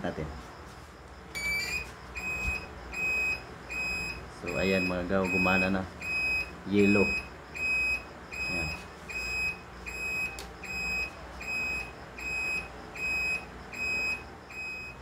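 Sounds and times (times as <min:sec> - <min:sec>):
turn-signal beeper beeping: 0:01.3 - 0:15.0.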